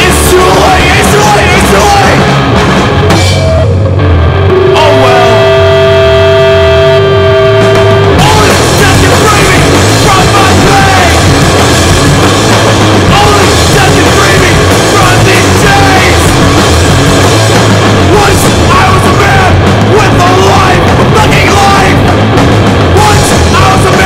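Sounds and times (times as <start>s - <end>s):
distorted punk rock band: 0.0s - 24.0s.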